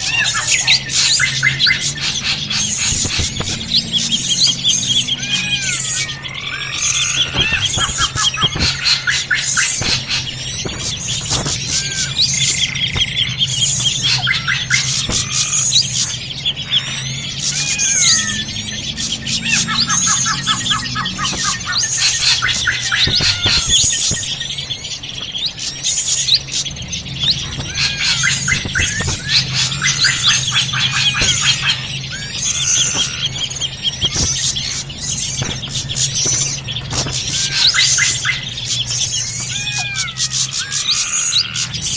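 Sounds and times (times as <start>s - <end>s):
drongo birds calling: 0.0s - 41.9s.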